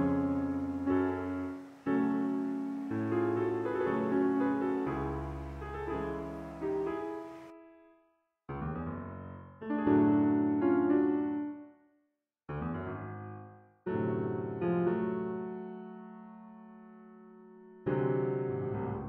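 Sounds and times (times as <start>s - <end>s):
slow piano music: 0.0s - 11.9s, 12.5s - 19.0s.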